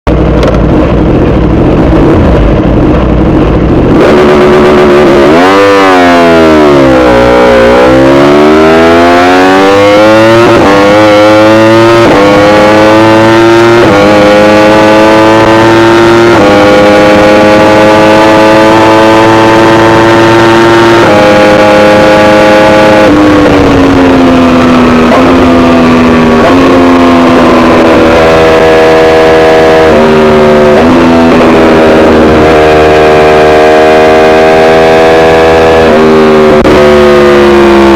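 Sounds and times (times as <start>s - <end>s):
motorcycle engine revving: 0.1s - 37.9s.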